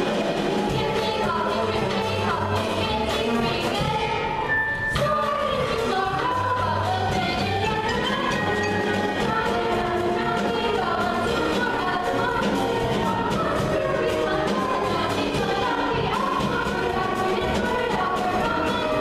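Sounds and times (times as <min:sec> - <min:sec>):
group of voices singing: 0:00.0 - 0:19.0
music with steady beat: 0:00.0 - 0:19.0.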